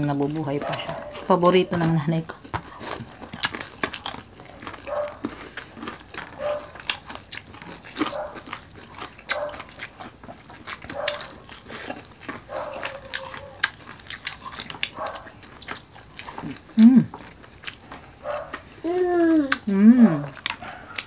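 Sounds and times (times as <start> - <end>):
crisp crunching of food: 0.0 - 21.0.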